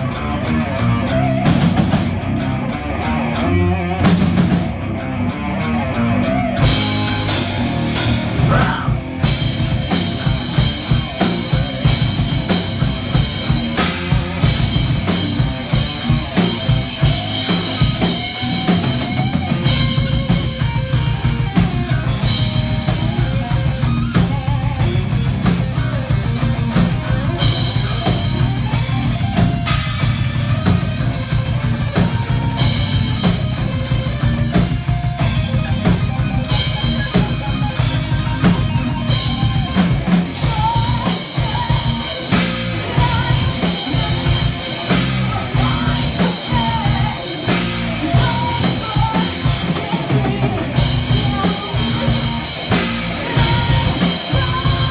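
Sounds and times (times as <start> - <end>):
metal band playing: 0.0 - 54.9.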